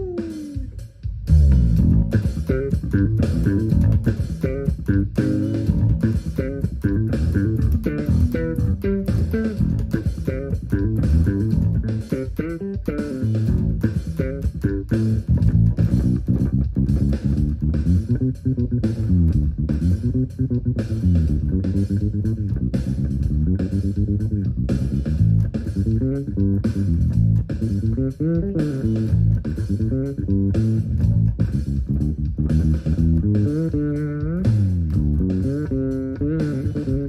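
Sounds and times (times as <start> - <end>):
fretless bass funk groove: 0.0 - 37.0.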